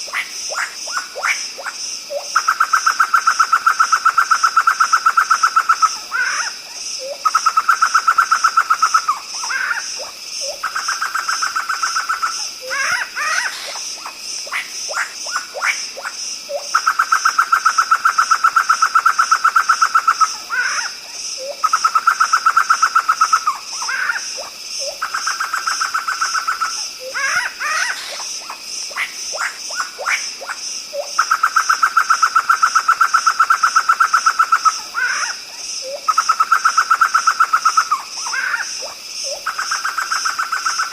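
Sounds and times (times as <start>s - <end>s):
laughingthrush calling: 0.0s - 40.9s.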